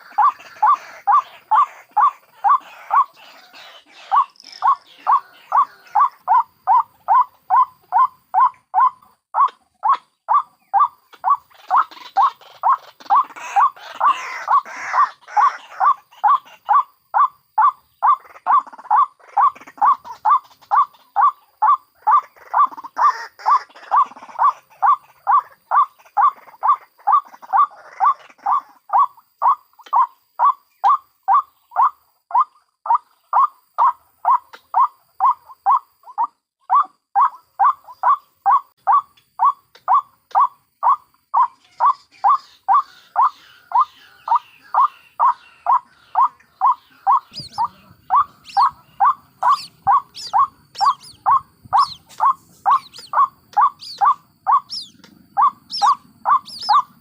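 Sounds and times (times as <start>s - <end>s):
chattering waterhen calls: 0.0s - 57.0s
waterhen calling: 0.0s - 57.0s.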